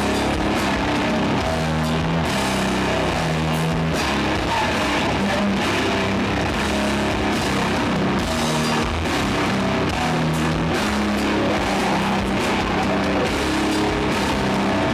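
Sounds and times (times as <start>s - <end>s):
distorted guitar chords: 0.0s - 14.9s
drums and cymbals: 0.0s - 14.9s.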